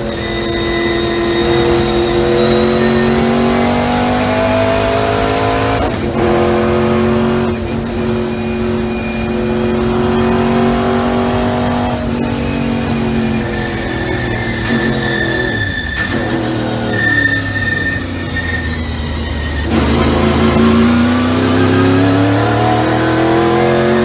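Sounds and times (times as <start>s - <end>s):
race car engine at high revs: 0.0s - 24.0s.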